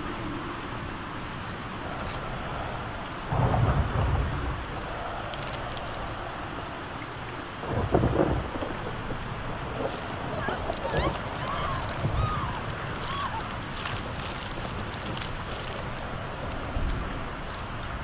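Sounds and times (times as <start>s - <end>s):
steady rain: 0.0s - 18.0s
thunder rolling: 1.8s - 18.0s.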